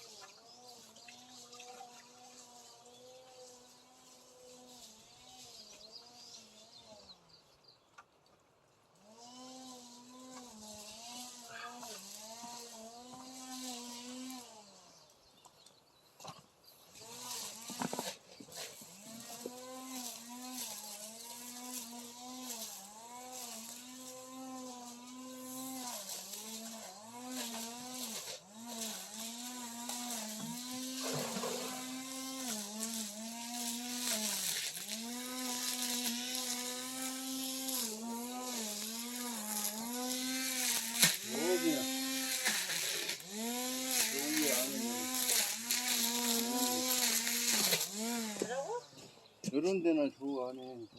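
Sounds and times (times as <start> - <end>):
electric brush cutter running: 0.0 - 7.3, 8.9 - 15.6, 16.3 - 49.7.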